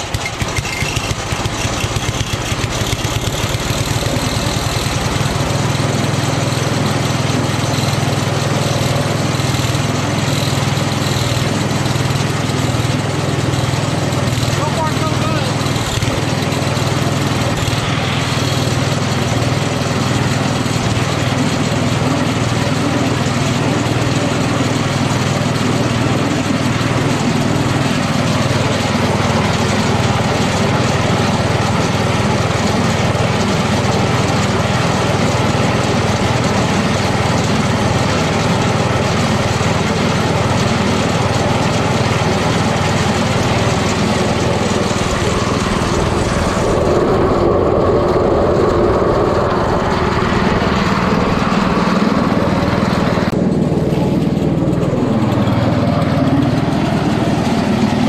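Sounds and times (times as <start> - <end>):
snowblower engine running: 0.0 - 58.0.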